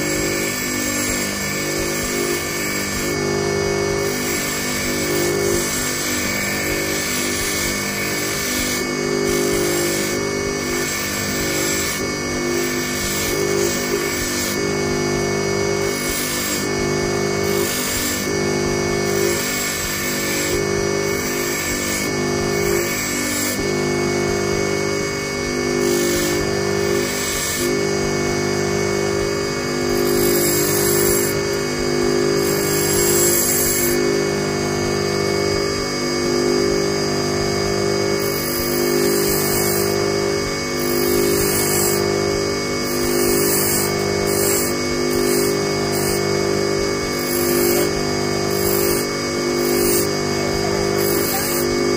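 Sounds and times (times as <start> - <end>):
bench grinder motor humming: 0.0 - 51.9
wire scraping on grinding wheel: 0.0 - 51.9.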